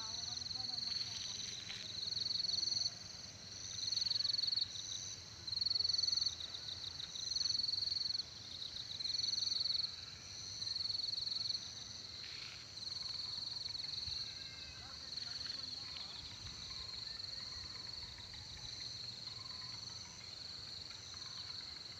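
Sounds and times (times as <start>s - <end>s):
insects trilling: 0.0s - 21.9s.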